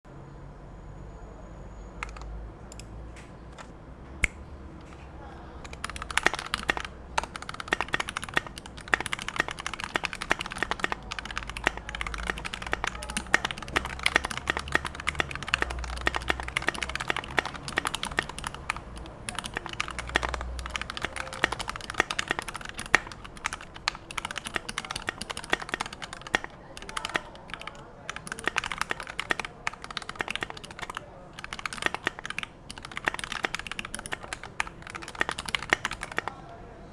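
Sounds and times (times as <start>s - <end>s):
mechanical keyboard typing: 2.0s - 36.7s.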